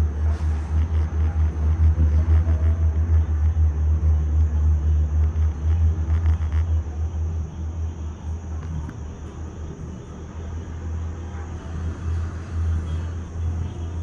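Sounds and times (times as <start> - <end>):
gondola cabin rumble: 0.0 - 14.0.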